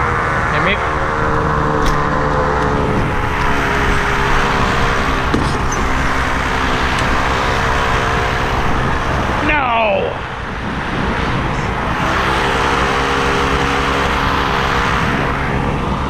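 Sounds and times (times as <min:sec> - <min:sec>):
boat engine running steadily: 0:00.0 - 0:16.0.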